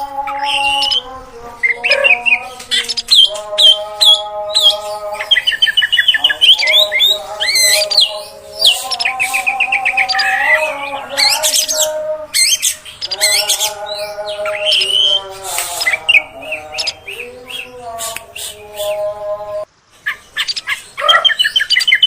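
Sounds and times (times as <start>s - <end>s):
songbird chirps and trills: 0.0s - 22.0s.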